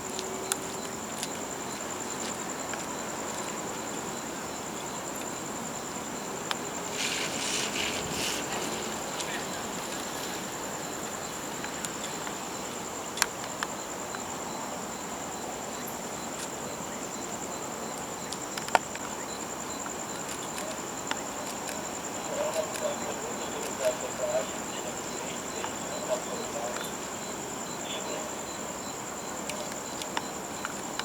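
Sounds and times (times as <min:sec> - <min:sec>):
background hiss: 0:00.0 - 0:31.0
insect trilling: 0:00.0 - 0:31.0.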